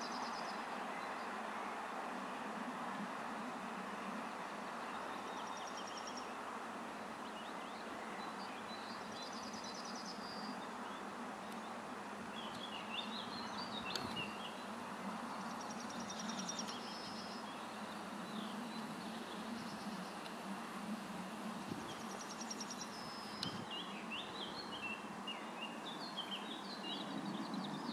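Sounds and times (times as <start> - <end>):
songbirds trilling: 3.9 - 27.9.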